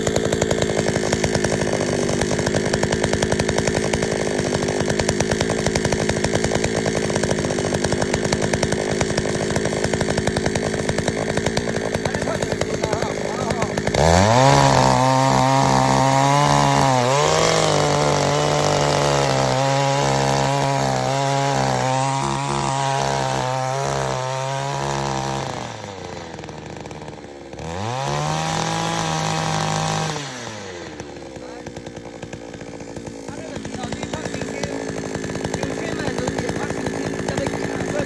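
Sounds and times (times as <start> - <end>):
small petrol engine revving: 0.0 - 38.0.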